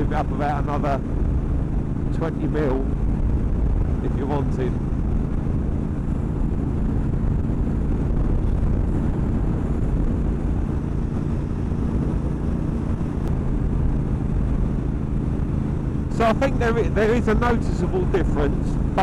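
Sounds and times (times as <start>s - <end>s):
motorcycle engine cruising: 0.0s - 19.0s
wind noise: 0.0s - 19.0s.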